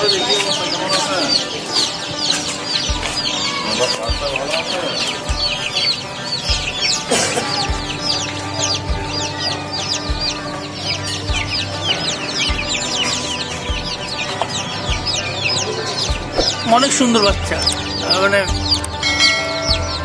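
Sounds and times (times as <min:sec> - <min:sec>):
background music with low beat: 0:00.0 - 0:20.0
chicks peeping: 0:00.0 - 0:20.0.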